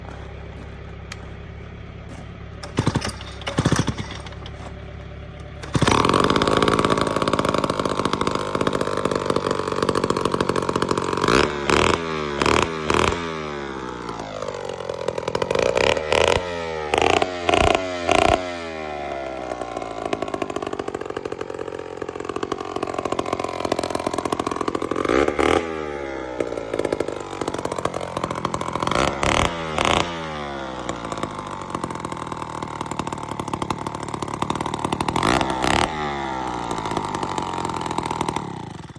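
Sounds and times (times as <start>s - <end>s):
chainsaw running and revving: 2.1s - 38.9s.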